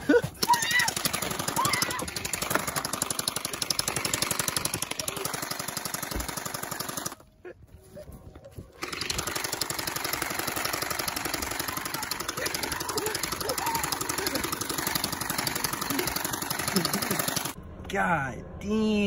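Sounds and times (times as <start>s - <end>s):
toy blaster firing rapidly: 0.4s - 7.2s, 8.8s - 17.6s.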